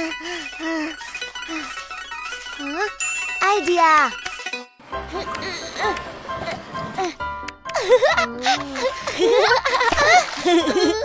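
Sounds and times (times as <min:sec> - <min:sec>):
playful bouncy music: 0:00.0 - 0:11.0.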